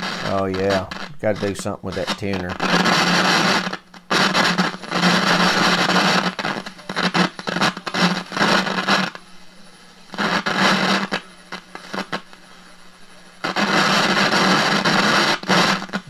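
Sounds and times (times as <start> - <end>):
radio static hissing and crackling: 0.0 - 16.0.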